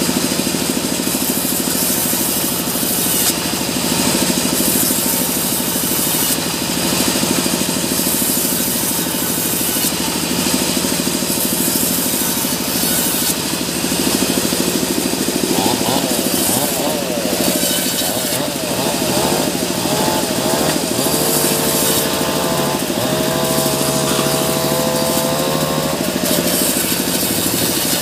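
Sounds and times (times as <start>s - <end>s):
saw blade hissing through wood: 0.4s - 28.0s.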